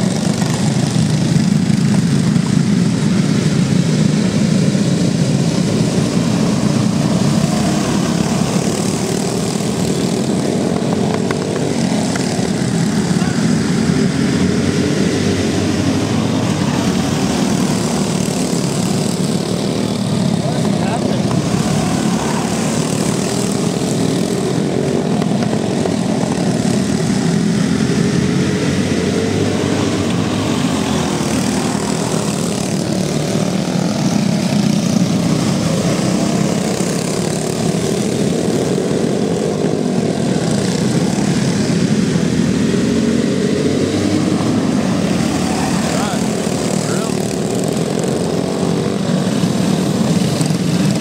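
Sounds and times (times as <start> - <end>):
go-kart engines racing: 0.0 - 51.0.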